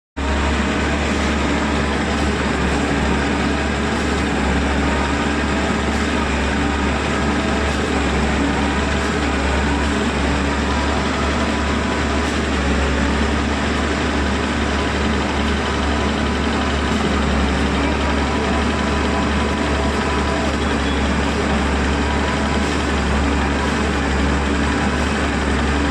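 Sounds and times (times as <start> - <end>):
heavy diesel machinery running: 0.0 - 25.9
constant low hum: 0.2 - 25.9.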